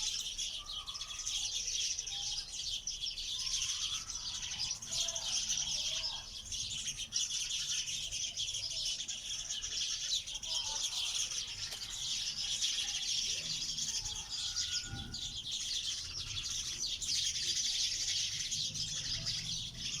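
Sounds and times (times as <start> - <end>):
small birds twittering chorus: 0.0 - 20.0.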